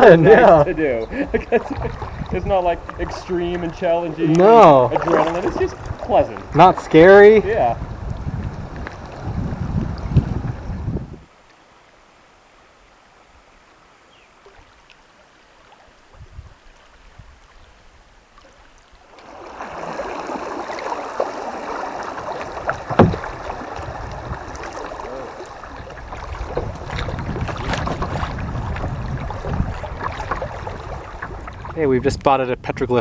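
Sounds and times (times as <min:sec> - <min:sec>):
water rushing along hull: 0:00.0 - 0:33.0
paddle strokes splashing: 0:01.1 - 0:10.7, 0:14.3 - 0:31.8.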